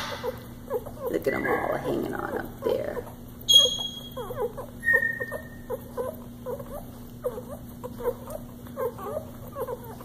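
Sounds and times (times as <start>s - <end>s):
puppies squeaking: 0.0s - 10.0s.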